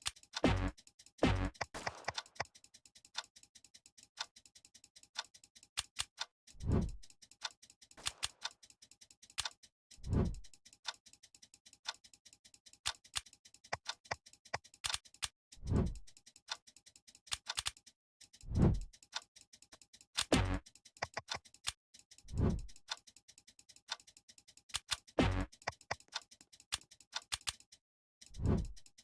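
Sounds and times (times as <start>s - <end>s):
keyboard typing: 0.0s - 15.3s, 15.9s - 27.8s.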